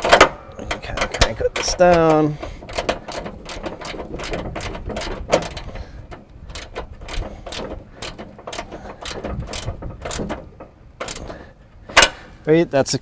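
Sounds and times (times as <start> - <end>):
wrench clicking against nut: 0.0 - 10.4, 11.0 - 12.2.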